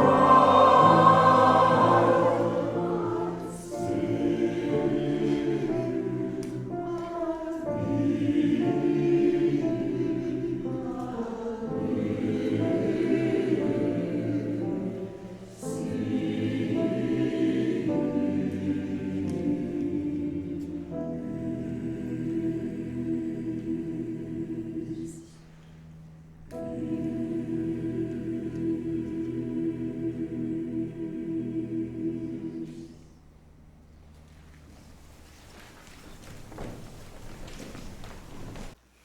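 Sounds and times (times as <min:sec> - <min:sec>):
choir singing in harmony: 0:00.0 - 0:33.9.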